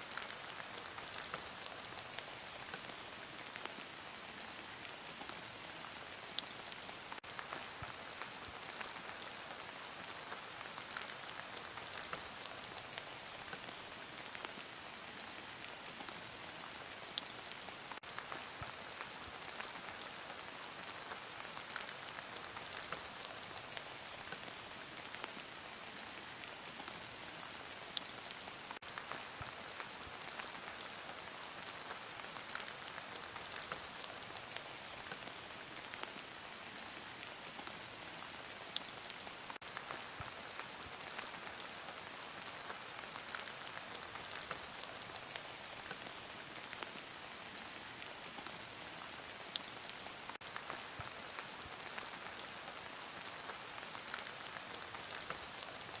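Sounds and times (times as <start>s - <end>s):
heavy rain falling: 0.1s - 56.0s.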